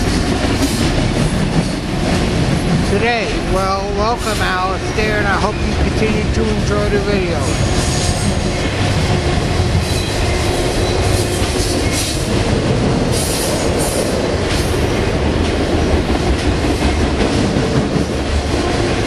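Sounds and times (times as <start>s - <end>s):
train cars clacking: 0.0s - 19.0s
train wheels rumbling on rail: 0.0s - 19.0s.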